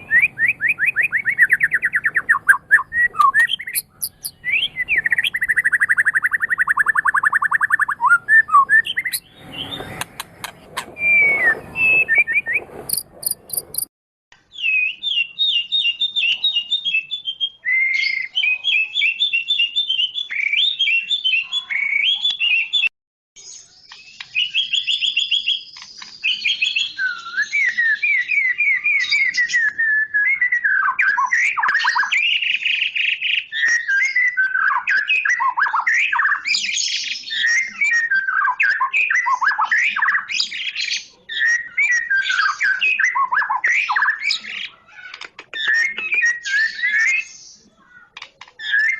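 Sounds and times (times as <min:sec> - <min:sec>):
bird singing whistled phrases: 0:00.0 - 0:10.0, 0:10.9 - 0:13.9, 0:14.5 - 0:44.6, 0:45.5 - 0:47.7, 0:48.6 - 0:48.9.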